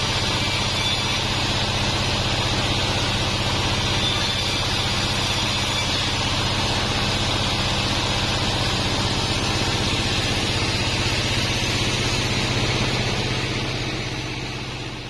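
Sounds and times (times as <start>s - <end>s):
band saw humming and hissing: 0.0s - 15.0s.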